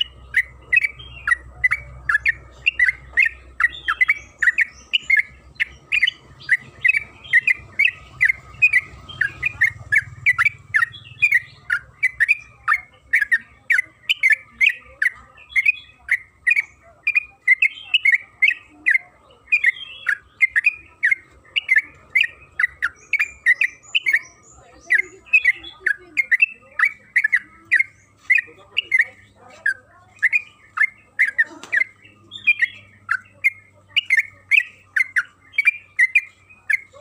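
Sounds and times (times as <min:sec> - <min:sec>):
bird singing sharp chirps: 0:00.0 - 0:37.0.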